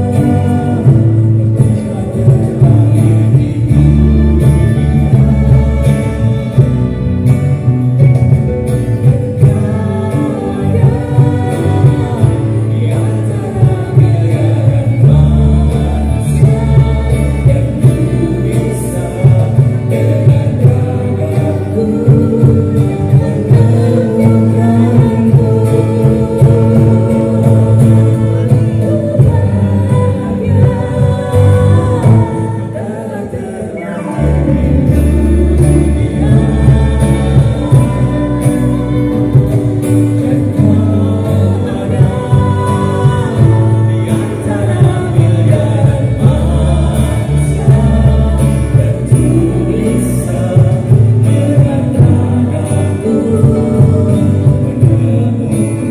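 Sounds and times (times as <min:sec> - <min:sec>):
guitars: 0:00.0 - 0:55.9
voices singing together: 0:00.0 - 0:55.9.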